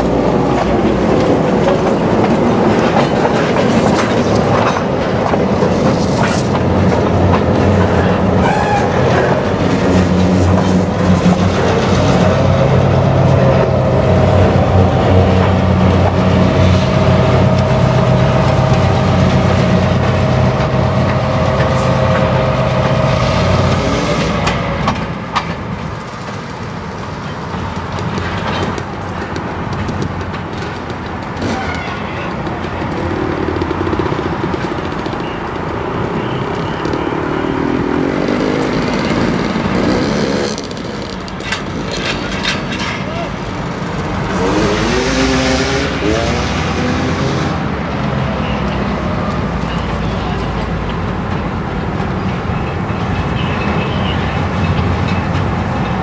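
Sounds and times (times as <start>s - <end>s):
diesel locomotive engine drone: 0.0s - 56.0s
rail cars rumbling: 0.0s - 56.0s.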